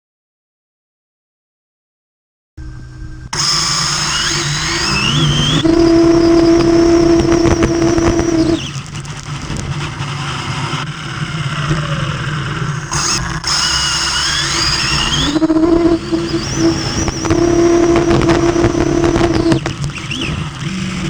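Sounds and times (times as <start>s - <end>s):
electric motor whining: 2.6s - 21.0s.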